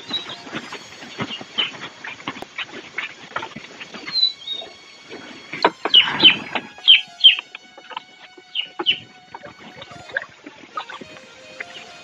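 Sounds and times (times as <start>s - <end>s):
birds chirping: 0.0s - 12.0s
music notes: 0.0s - 12.0s.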